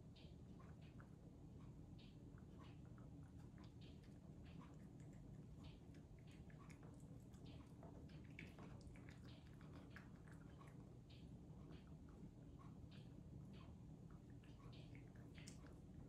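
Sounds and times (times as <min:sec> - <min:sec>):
low steady hum: 0:00.0 - 0:16.0
cat chewing wet food: 0:00.2 - 0:16.0.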